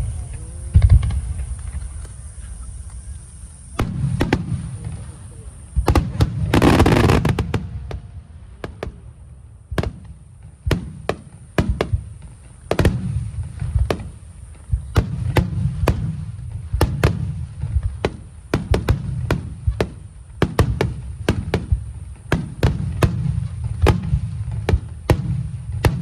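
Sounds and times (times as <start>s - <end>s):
fireworks bursting with sharp bangs: 0.0s - 26.0s.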